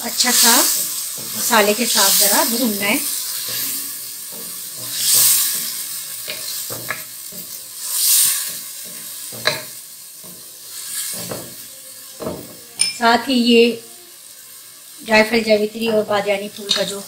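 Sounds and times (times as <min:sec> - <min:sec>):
beans sizzling in a pot: 0:00.0 - 0:17.0.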